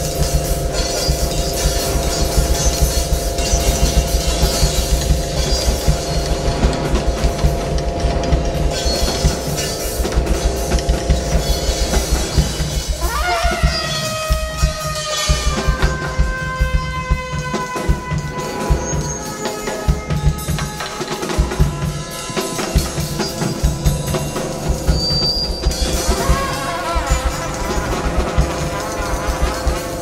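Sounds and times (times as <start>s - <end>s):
drum kit beat: 0.0s - 30.0s
sliding brass horn tones: 0.0s - 30.0s.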